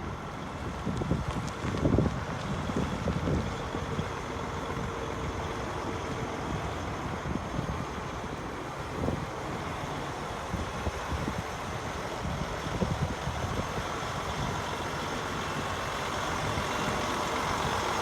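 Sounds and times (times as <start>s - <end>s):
truck diesel engine idling: 0.0s - 18.0s.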